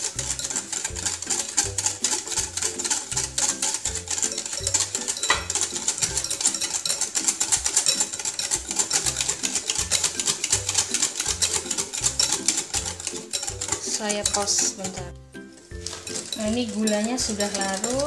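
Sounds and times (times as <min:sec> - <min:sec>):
whisk clicking against glass bowl: 0:00.0 - 0:15.1, 0:15.8 - 0:18.0.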